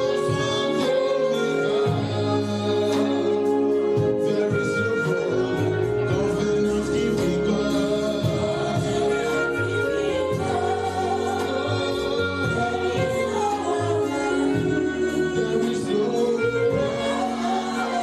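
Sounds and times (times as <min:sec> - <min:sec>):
voices singing worship music: 0:00.0 - 0:18.0.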